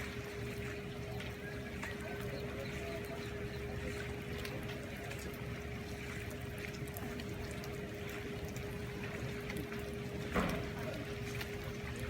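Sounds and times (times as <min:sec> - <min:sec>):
constant hum: 0:00.0 - 0:12.0
water splashing and trickling: 0:00.0 - 0:12.0.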